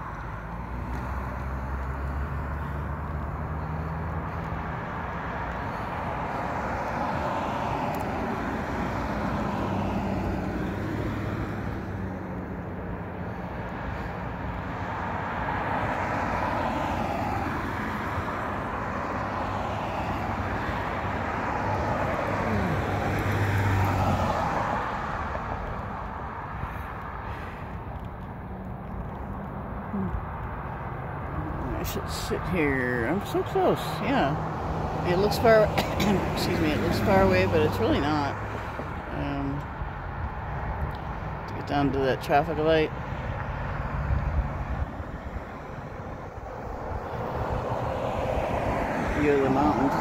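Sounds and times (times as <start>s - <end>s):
cars passing: 0.0s - 50.0s.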